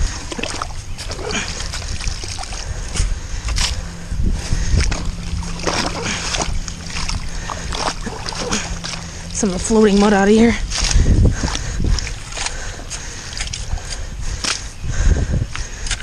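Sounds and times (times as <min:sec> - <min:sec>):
water splashing: 0:00.0 - 0:14.8.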